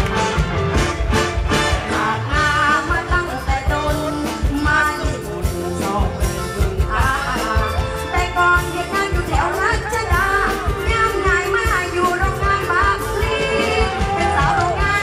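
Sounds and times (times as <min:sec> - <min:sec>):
steady drum beat: 0:00.0 - 0:15.0
woman singing into a microphone: 0:01.7 - 0:15.0.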